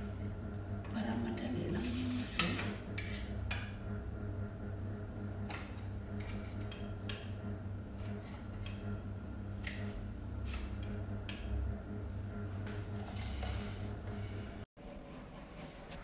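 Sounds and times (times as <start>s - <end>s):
low hum: 0.0s - 14.7s.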